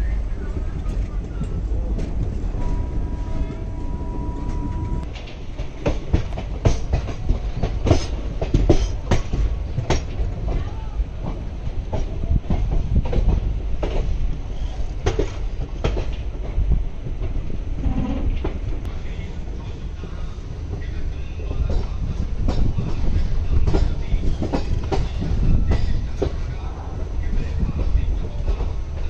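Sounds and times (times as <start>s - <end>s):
train coach rumbling: 0.0s - 29.0s.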